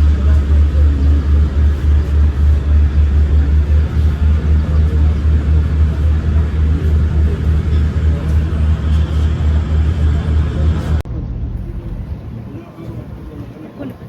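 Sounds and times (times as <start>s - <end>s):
low pulsing engine rumble: 0.0s - 14.0s.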